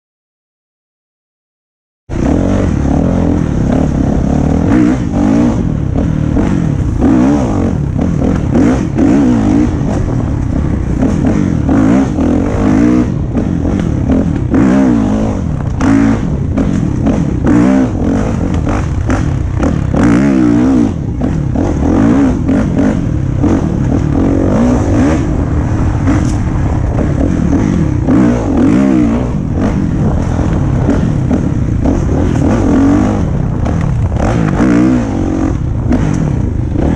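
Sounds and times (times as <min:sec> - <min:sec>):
dirt bike engine revving: 0:02.1 - 0:36.9.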